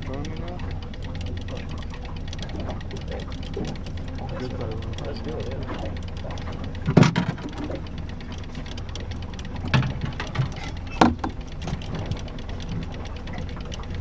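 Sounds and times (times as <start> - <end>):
boat motor humming: 0.0 - 14.0
gear knocking on boat: 0.0 - 14.0
rapid mechanical ticking: 0.0 - 14.0.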